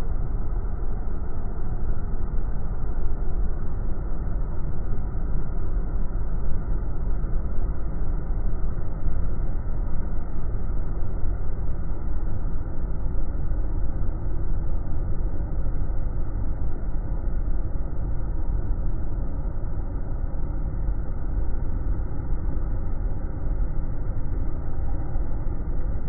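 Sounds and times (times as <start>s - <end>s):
low mechanical rumble: 0.0s - 26.0s.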